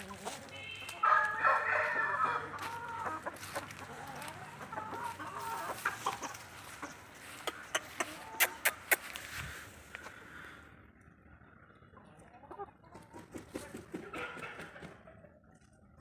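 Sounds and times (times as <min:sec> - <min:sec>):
chickens calling: 0:00.0 - 0:15.2.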